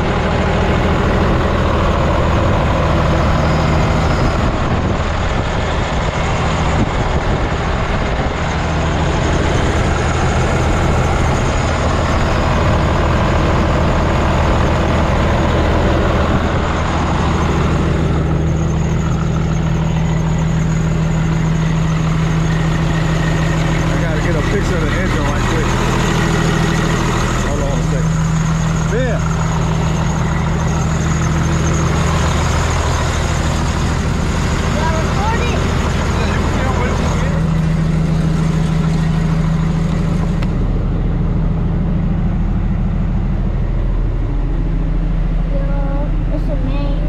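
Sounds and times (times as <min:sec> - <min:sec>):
diesel truck engine idling: 0:00.0 - 0:47.0.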